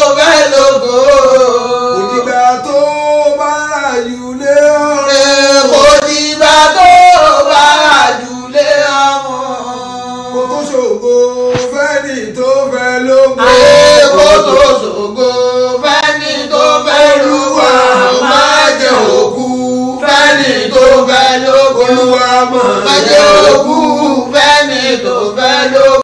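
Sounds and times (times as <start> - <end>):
man chanting a prayer: 0.0 - 16.1, 16.8 - 26.0.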